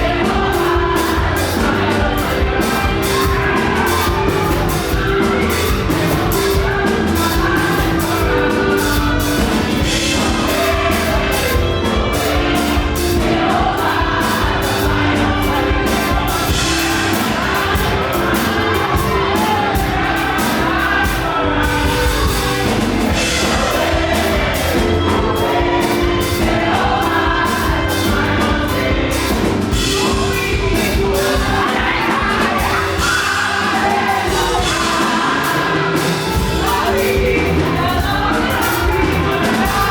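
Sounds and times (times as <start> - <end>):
band playing: 0.0 - 39.9
driving drum beat: 0.0 - 39.9
group singing gospel: 0.0 - 39.9.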